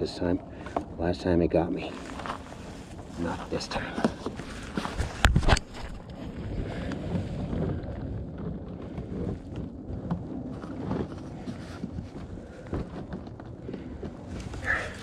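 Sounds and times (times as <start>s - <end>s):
low uneven rumbling: 0.0s - 15.0s.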